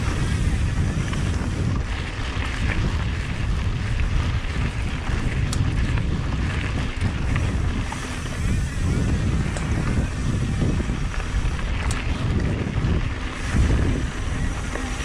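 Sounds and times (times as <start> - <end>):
tyres rumbling on dirt trail: 0.0 - 15.0
wind buffeting microphone: 0.0 - 15.0.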